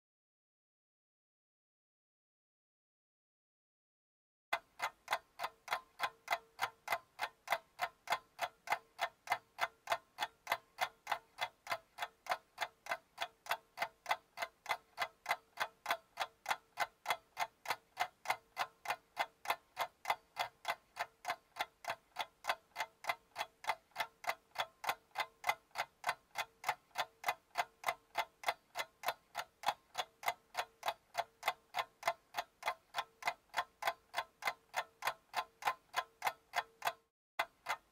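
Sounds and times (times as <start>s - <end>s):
clock ticking: 4.5s - 37.9s.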